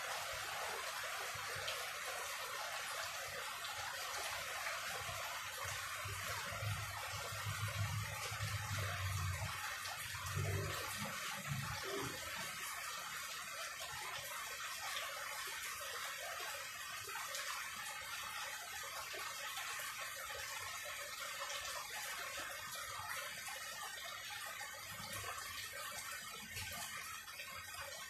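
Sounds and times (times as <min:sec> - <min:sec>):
steady rain hissing: 0:00.0 - 0:28.0.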